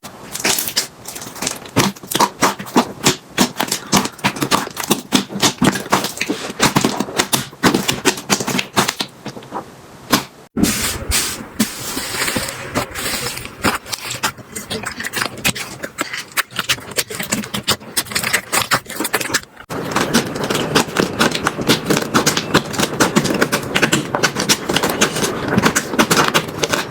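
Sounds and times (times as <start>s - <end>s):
soft hissy slime crackle: 0.0s - 26.9s.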